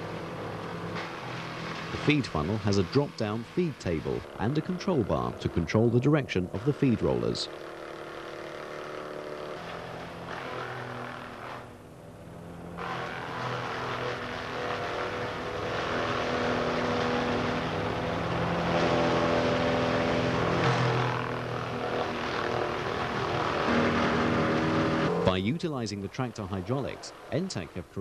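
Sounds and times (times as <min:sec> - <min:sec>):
wood chipper chipping: 0:00.0 - 0:25.5, 0:26.4 - 0:27.7
tractor engine: 0:00.0 - 0:28.0.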